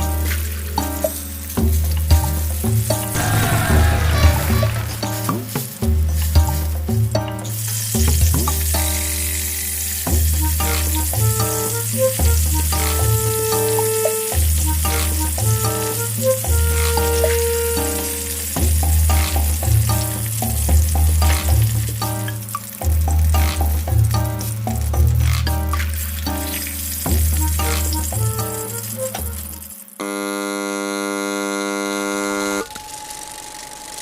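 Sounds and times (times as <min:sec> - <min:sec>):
background music with bass: 0:00.0 - 0:29.7
tofu sizzling in hot oil: 0:00.0 - 0:30.0.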